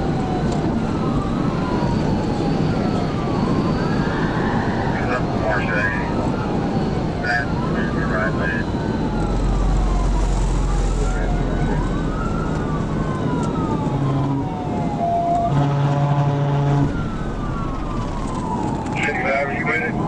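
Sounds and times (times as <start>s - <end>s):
police siren wailing: 0.0s - 20.0s
road noise: 0.0s - 20.0s.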